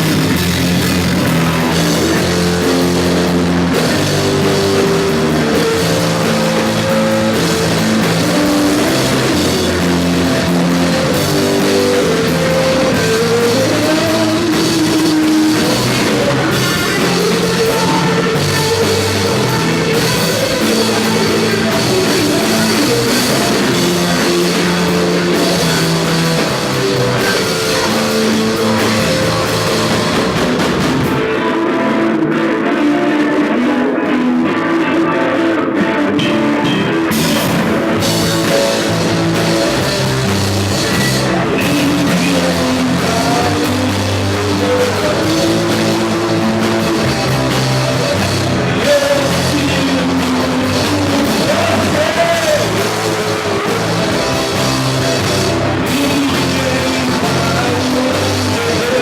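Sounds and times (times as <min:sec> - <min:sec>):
bass guitar: 0:00.0 - 0:59.0
drum kit: 0:00.0 - 0:59.0
electric guitar: 0:00.0 - 0:59.0
person singing: 0:00.0 - 0:59.0.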